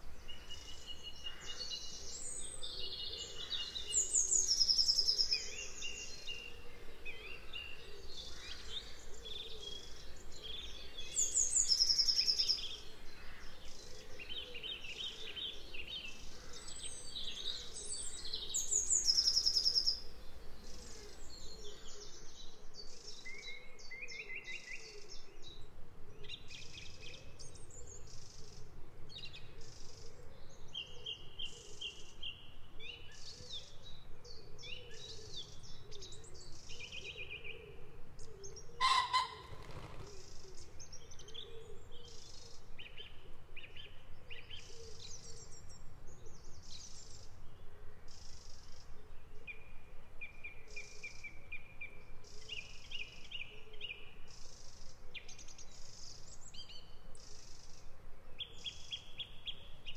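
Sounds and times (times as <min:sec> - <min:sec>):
faint background noise: 0:00.0 - 0:59.9
songbirds chirping and trilling: 0:00.0 - 0:59.9.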